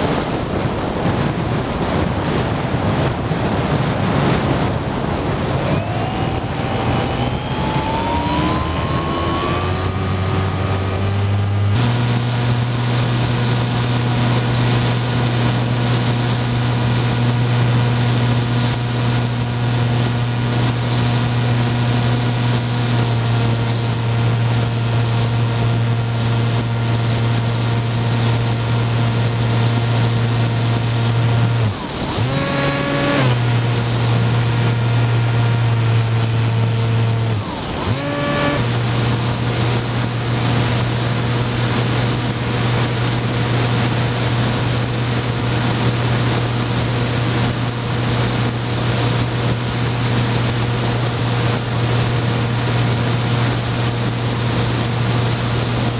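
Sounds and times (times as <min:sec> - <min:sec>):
faint high whine: 0:05.0 - 0:55.9
model plane motor buzzing: 0:05.1 - 0:55.9.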